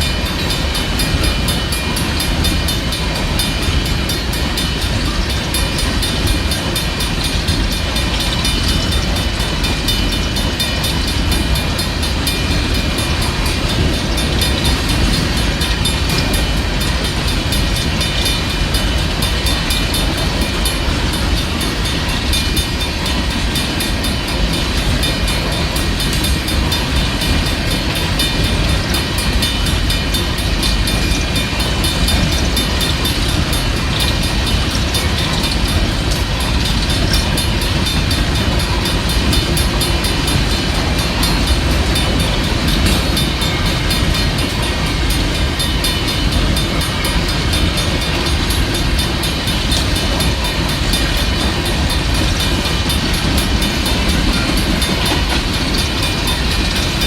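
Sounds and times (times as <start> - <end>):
train cars rumbling and rattling: 0.0 - 57.0.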